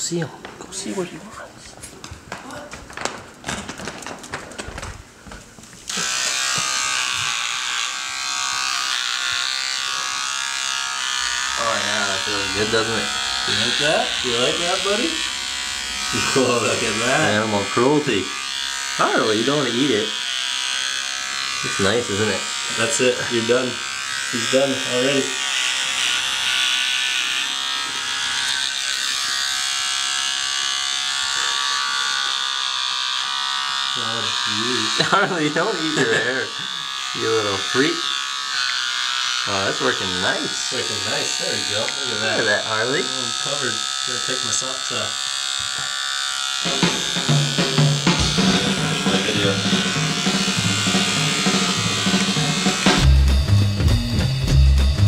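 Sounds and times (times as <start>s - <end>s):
electric hair clippers buzzing: 5.8s - 55.0s.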